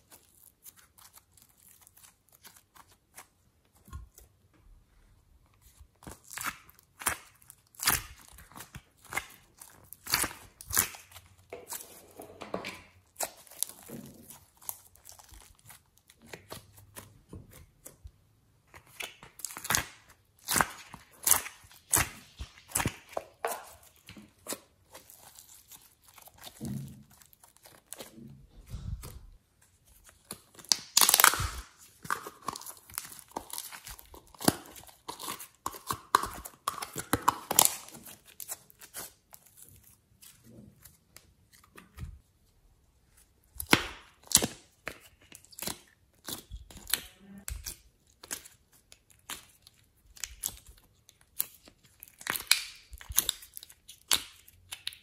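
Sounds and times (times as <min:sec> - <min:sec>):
foam clay sticky tearing: 0:00.0 - 0:04.4, 0:05.6 - 0:12.2, 0:12.9 - 0:42.2, 0:43.2 - 0:55.0.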